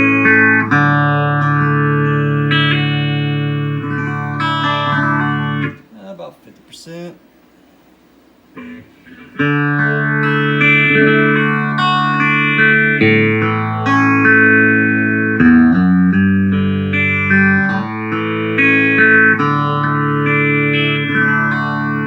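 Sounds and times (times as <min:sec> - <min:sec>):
electric guitar chords with phaser: 0:00.0 - 0:05.8, 0:08.6 - 0:22.0.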